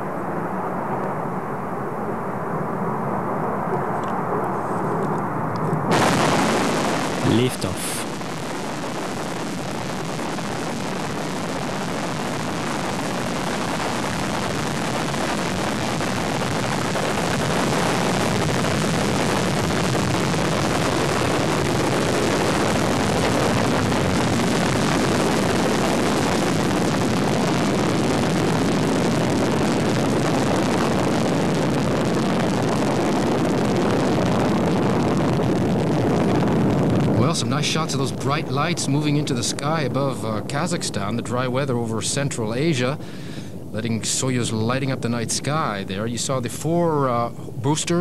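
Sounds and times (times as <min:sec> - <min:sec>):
rocket engines roaring: 0:00.0 - 0:48.0.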